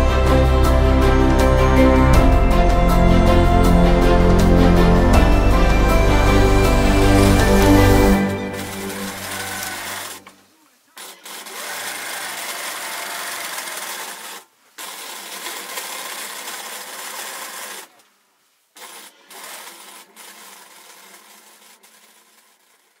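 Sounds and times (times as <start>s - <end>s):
sewing machine running: 1.2s - 10.3s, 11.0s - 18.0s, 18.8s - 23.0s.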